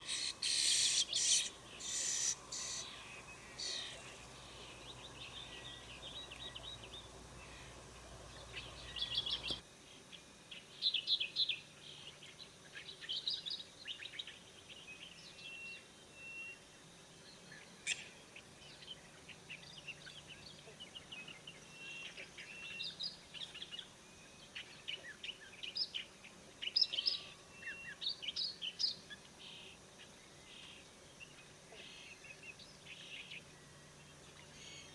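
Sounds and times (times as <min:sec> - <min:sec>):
low background hum: 0:00.1 - 0:34.9.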